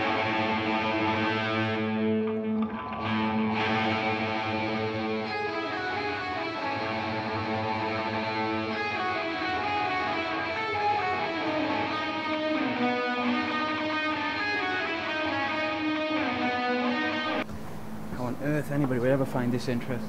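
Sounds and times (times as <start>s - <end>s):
electric guitar through amplifier: 0.0s - 18.2s.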